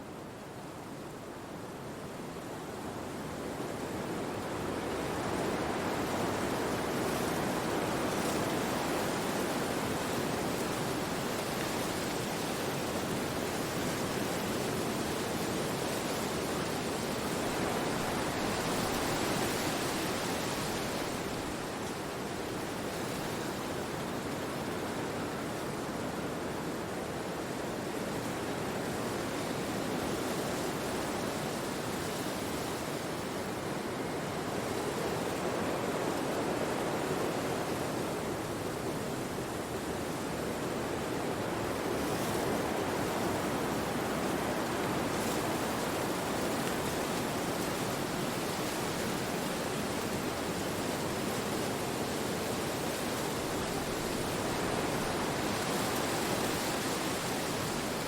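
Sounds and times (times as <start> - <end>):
wind rushing through trees: 0.0 - 58.0.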